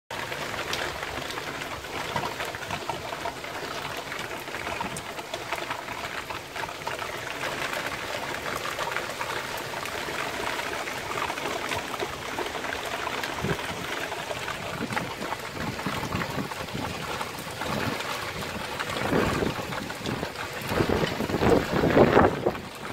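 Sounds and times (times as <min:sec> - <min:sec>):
raindrops ticking on surfaces: 0:00.1 - 0:22.9.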